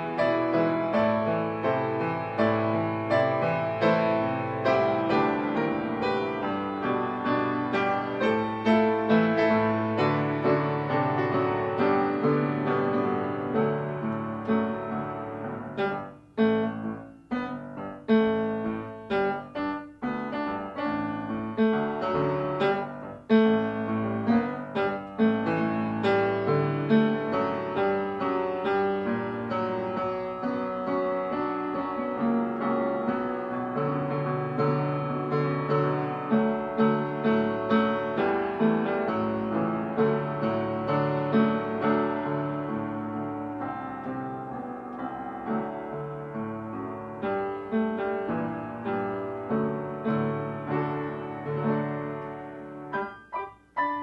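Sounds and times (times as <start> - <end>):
solo jazz piano: 0.0 - 54.0.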